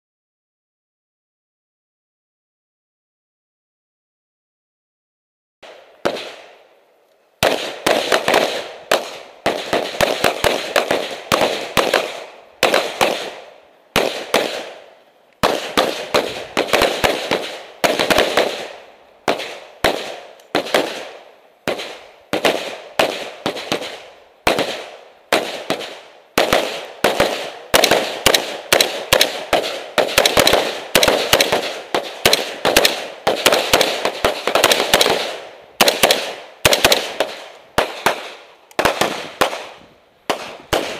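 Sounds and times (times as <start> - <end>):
gunshots echoing: 5.6 - 6.7, 7.4 - 40.9.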